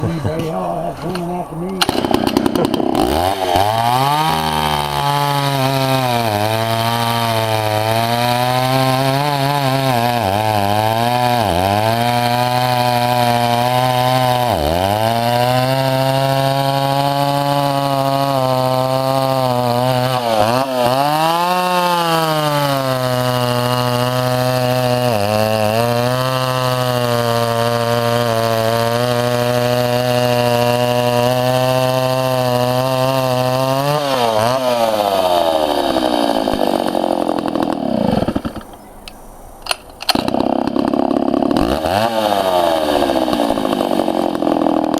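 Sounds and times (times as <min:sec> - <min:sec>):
chainsaw running: 0:00.0 - 0:44.9.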